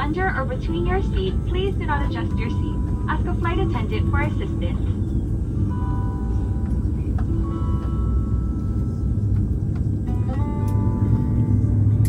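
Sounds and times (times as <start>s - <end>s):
aircraft cabin engine rumble: 0.0s - 12.0s
quiet cabin music: 0.0s - 12.0s.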